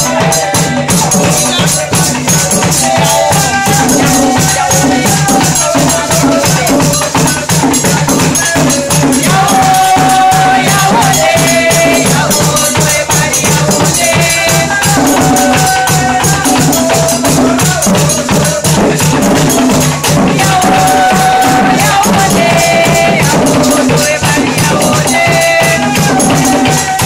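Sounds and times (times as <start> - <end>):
group singing: 0.0 - 27.0
hand drums: 0.0 - 27.0.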